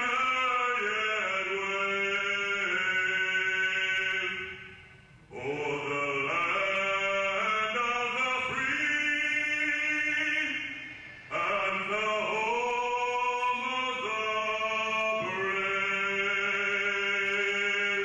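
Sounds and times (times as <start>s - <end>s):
person singing slow song: 0.0s - 18.0s.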